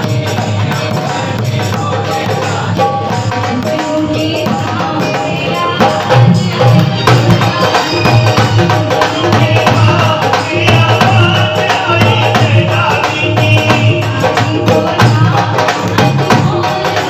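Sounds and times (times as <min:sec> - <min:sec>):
devotional music with percussion: 0:00.0 - 0:17.0.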